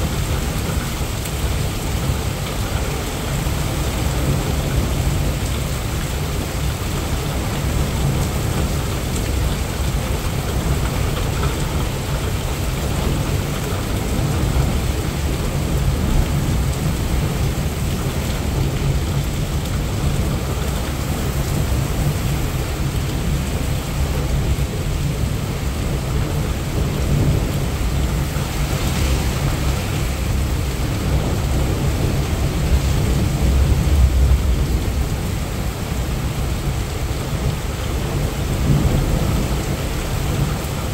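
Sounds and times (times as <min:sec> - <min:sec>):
heavy rain pouring: 0:00.0 - 0:40.9
low rumble of thunder: 0:00.0 - 0:40.9.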